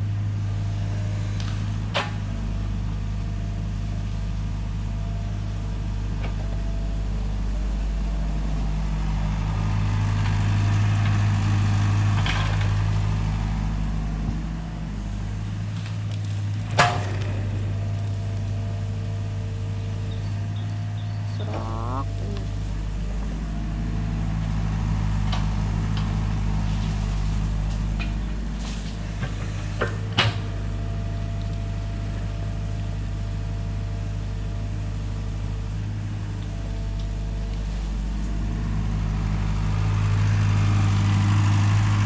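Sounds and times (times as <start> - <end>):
excavator diesel engine: 0.1 - 42.0.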